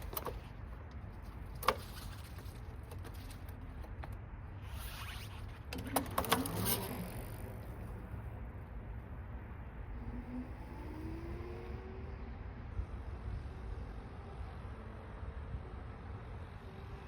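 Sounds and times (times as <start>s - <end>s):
rumble of wind and tyres: 0.0s - 17.0s.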